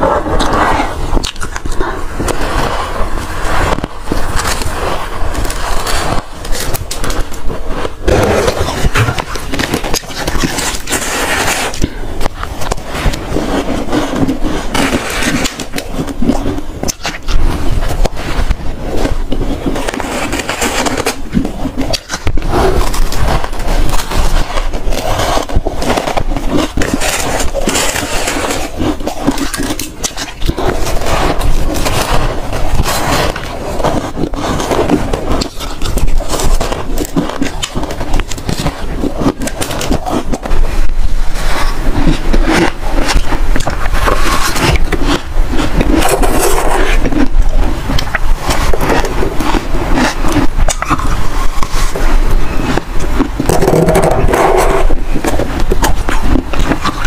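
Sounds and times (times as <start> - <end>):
ice crunching and crackling: 0.0 - 57.0.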